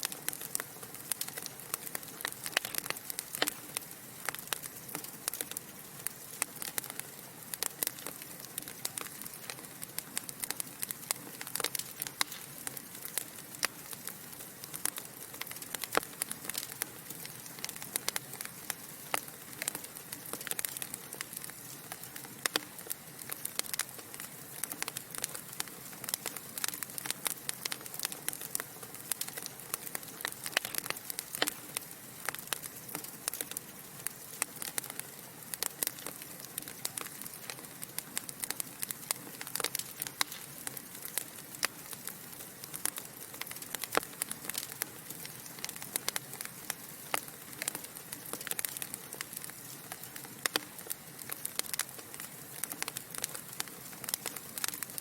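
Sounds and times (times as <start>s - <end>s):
fire crackling and popping: 0.0s - 55.0s
soft hiss of fire: 0.0s - 55.0s.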